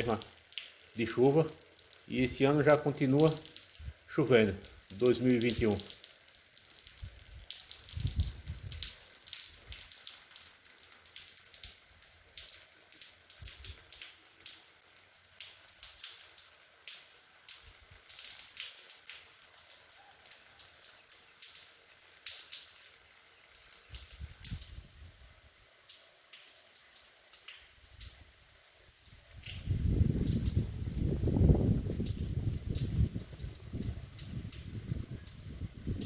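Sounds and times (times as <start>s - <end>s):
light rain falling: 0.0s - 36.0s.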